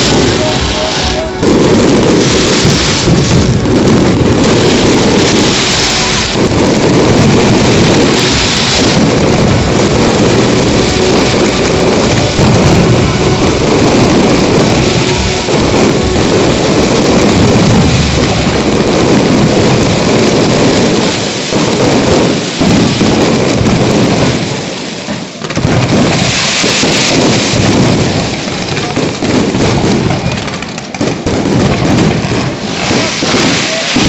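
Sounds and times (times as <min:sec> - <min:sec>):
fireworks booming and crackling: 0:00.0 - 0:34.0.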